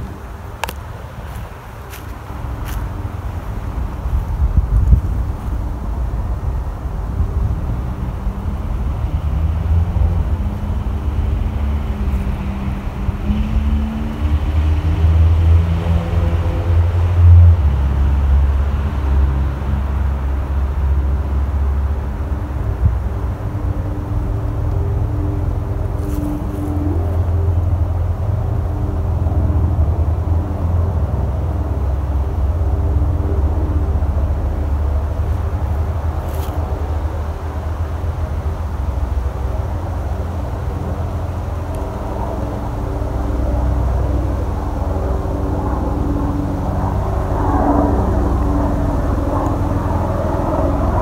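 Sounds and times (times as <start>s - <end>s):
helicopter flying past: 2.3s - 51.0s.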